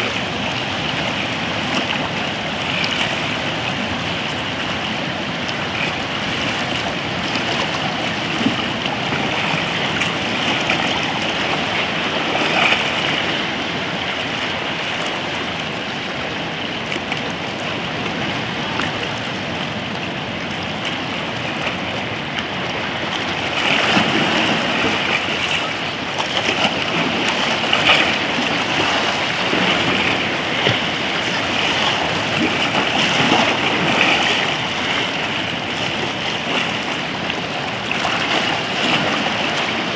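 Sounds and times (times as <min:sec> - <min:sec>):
water lapping around rocks: 0:00.0 - 0:39.9.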